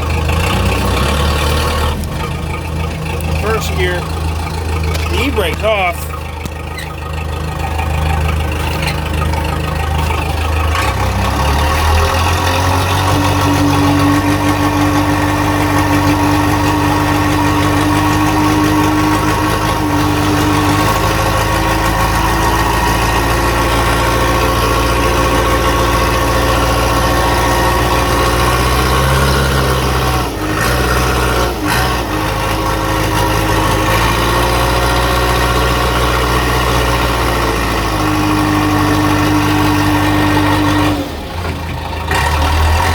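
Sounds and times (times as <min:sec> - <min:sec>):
backhoe engine running: 0:00.0 - 0:42.9.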